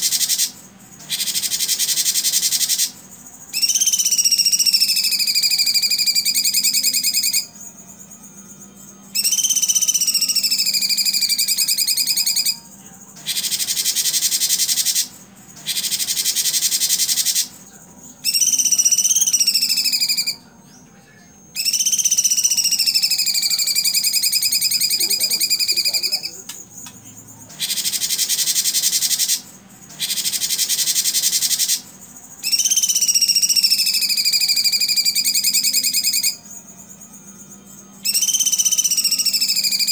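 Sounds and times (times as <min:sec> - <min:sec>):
falling buzzy whistle: 0:00.0 - 0:12.6, 0:18.2 - 0:26.4, 0:27.5 - 0:39.9
bird singing: 0:00.0 - 0:39.9.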